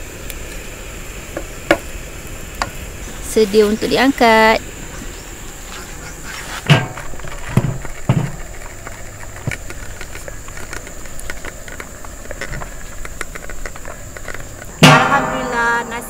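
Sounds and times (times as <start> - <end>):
rice ticking and scraping: 0.0 - 16.0.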